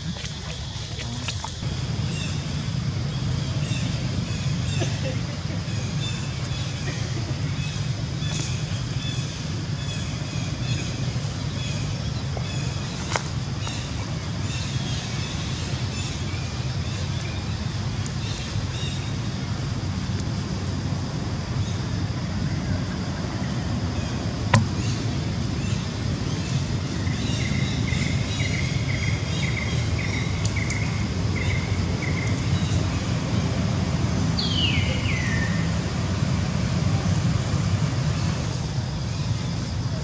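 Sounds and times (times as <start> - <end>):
low outdoor rumble: 0.0 - 40.0.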